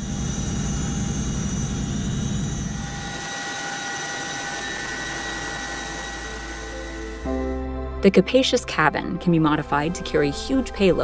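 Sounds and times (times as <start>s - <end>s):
helicopter rotor rumble: 0.0s - 11.0s
turbine whine: 0.0s - 11.0s.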